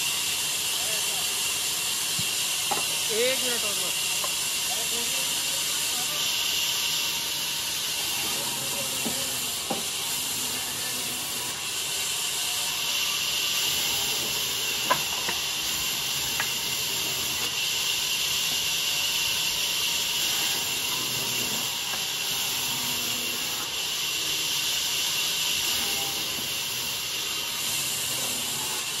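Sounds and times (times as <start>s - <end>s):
bandsaw cutting wood: 0.0s - 29.0s.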